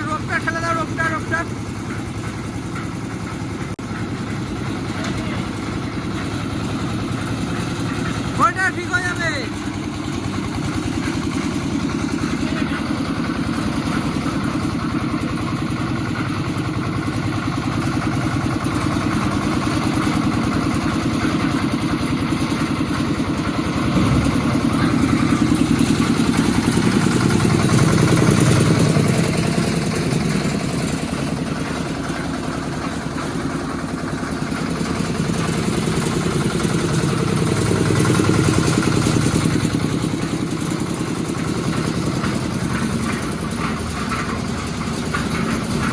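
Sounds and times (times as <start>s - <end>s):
small engine chugging: 0.0s - 45.9s.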